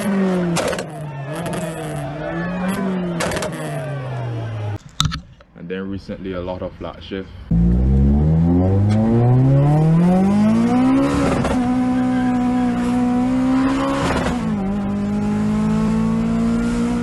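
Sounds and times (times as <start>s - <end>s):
car engine revving at full throttle: 0.0s - 4.8s, 7.5s - 17.0s.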